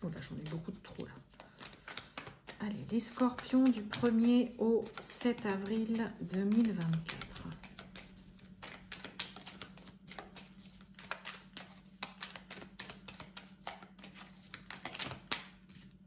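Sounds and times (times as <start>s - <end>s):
cards being shuffled: 0.2s - 16.0s.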